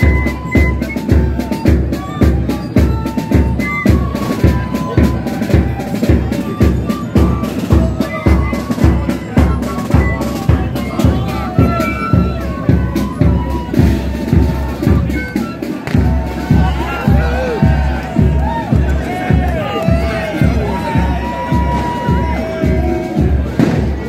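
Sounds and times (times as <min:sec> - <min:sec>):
high melody instrument notes: 0:00.0 - 0:23.7
bass drum beating: 0:00.0 - 0:24.0
snare drums: 0:00.0 - 0:24.0.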